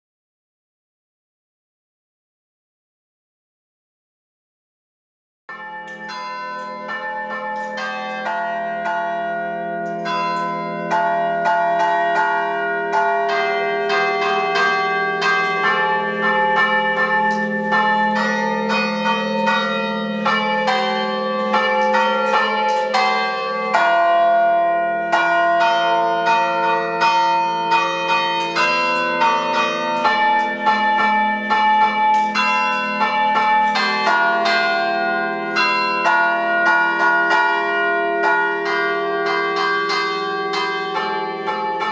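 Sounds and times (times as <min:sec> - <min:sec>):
carillon bells ringing: 0:05.5 - 0:41.9.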